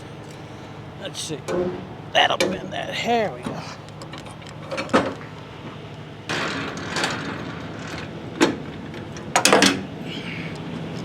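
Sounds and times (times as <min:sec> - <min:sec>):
low steady hum: 0:00.0 - 0:11.0
metal clanks: 0:01.4 - 0:10.7.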